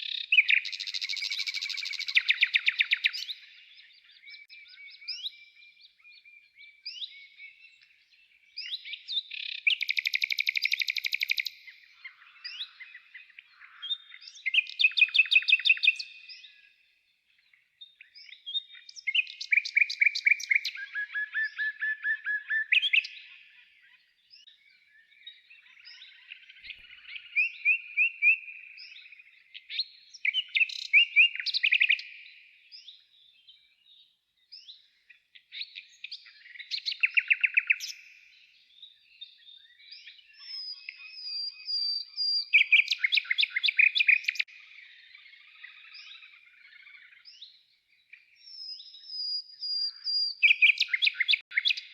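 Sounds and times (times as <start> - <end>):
faint bird chirps: 0.0 - 51.9
songbirds singing trills: 0.0 - 51.9.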